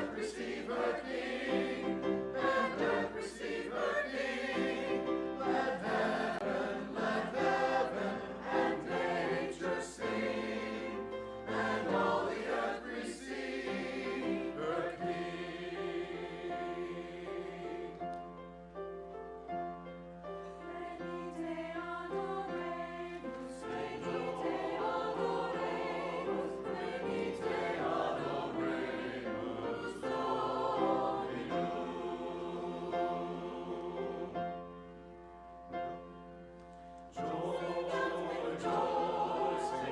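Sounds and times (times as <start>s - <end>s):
choir singing: 0.0s - 18.6s, 20.3s - 35.2s, 37.1s - 39.9s.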